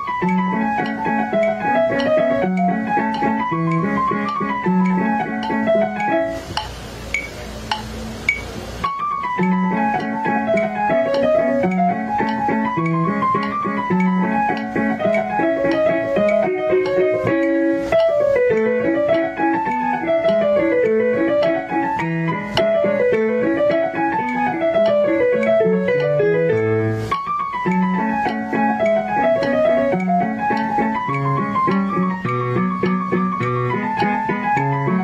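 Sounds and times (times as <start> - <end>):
keyboard background music: 0.0 - 35.0.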